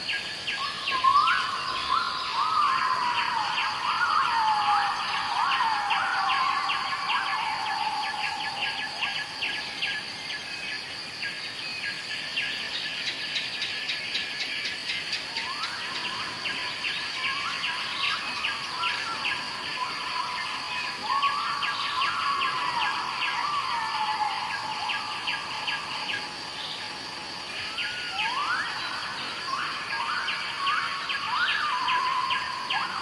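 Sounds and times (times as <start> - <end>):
insect trilling: 0.4 - 10.4, 15.3 - 33.0.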